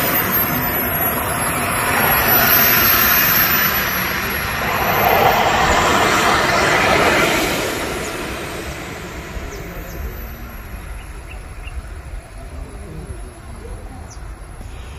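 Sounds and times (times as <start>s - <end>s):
model jet turbine engine whine: 0.0s - 14.9s.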